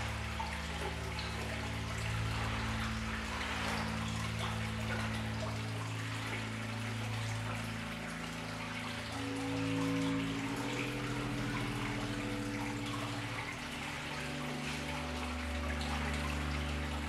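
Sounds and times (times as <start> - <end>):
slow ambient music: 0.0 - 17.0
water trickling: 0.0 - 17.0.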